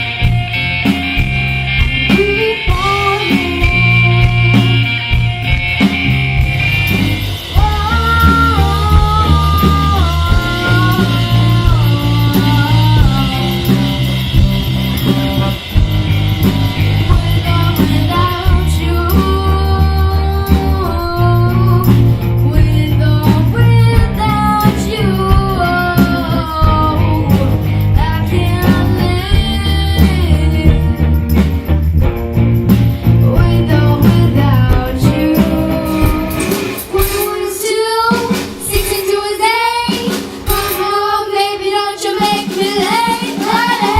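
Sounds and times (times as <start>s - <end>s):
bass guitar pulse: 0.0s - 36.9s
drums: 0.0s - 43.9s
electric guitar: 0.0s - 43.9s
person singing: 2.0s - 5.1s, 7.5s - 15.7s, 16.7s - 31.3s, 33.0s - 43.9s.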